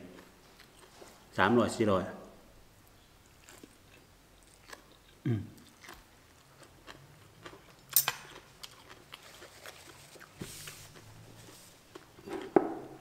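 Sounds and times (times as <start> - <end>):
man chewing: 0.0 - 1.3, 2.7 - 12.6.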